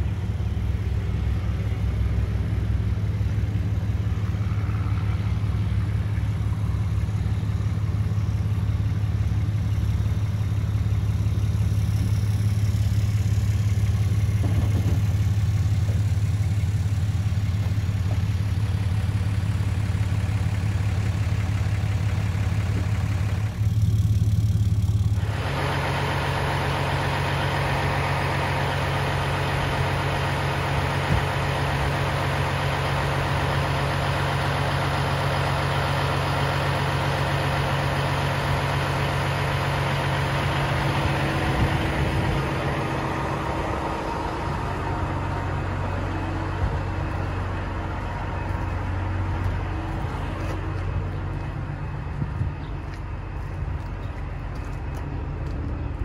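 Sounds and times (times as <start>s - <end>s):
harsh diesel engine idling: 0.0s - 56.0s
truck engines idling: 0.0s - 56.0s.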